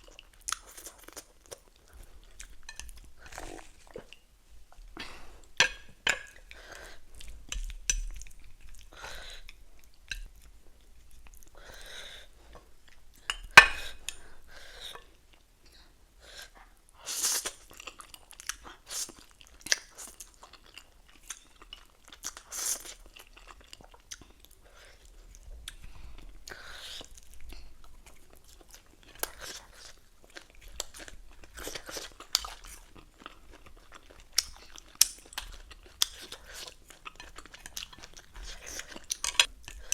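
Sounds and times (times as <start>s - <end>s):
person chewing and crunching food: 0.0s - 15.5s, 17.0s - 39.9s.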